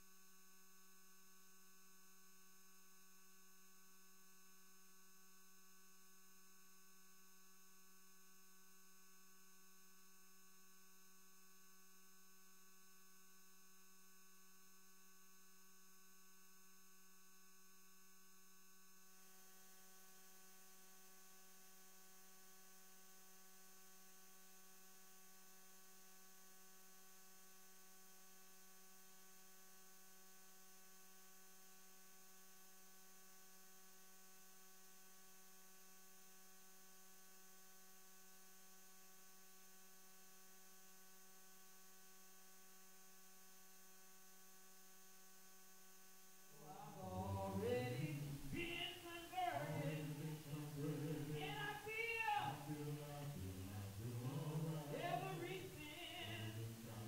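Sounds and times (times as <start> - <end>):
faint electrical hum: 1.2 - 57.0.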